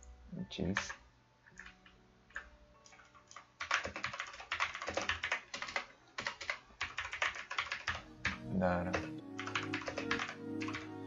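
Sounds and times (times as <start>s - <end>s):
computer keyboard typing: 0.7s - 11.0s.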